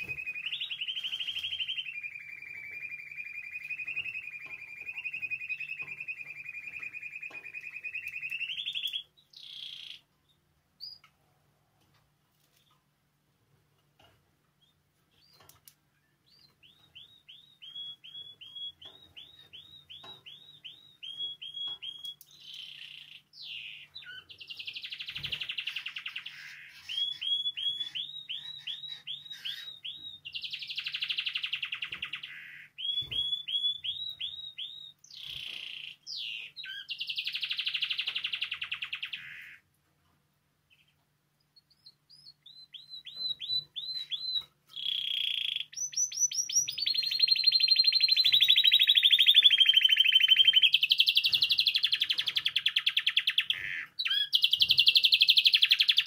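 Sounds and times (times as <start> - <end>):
canary singing: 0.0 - 11.1, 14.6 - 39.7, 40.7 - 56.0.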